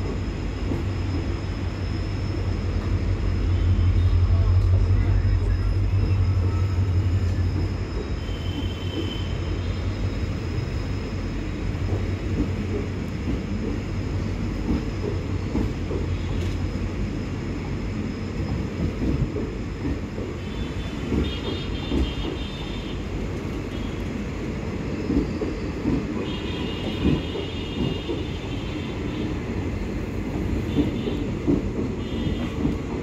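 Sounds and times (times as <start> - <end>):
train wheels rumbling: 0.0 - 33.0
train wheels clacking: 5.5 - 33.0.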